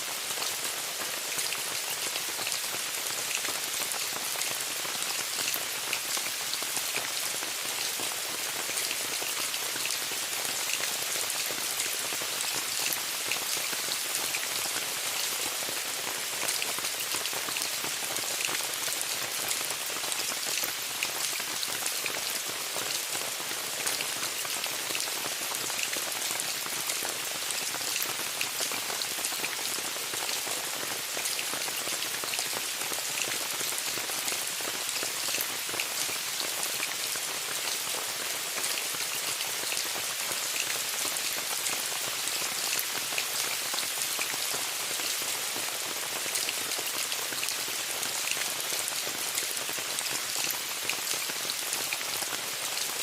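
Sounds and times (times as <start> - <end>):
rain falling on a tent: 0.0 - 53.0.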